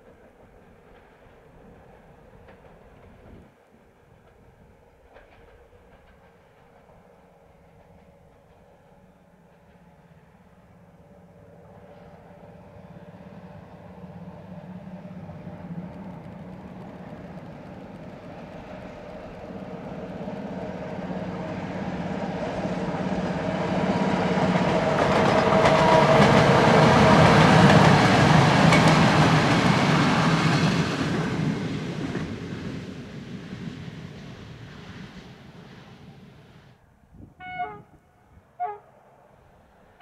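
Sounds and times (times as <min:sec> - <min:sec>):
train rumble and wheel clatter: 0:00.0 - 0:40.0.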